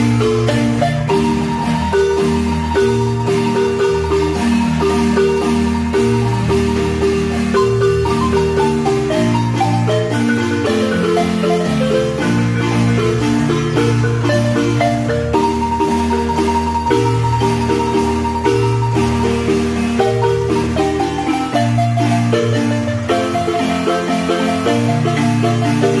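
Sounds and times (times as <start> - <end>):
marimba melody: 0.0 - 26.0
moving bass line: 0.0 - 26.0.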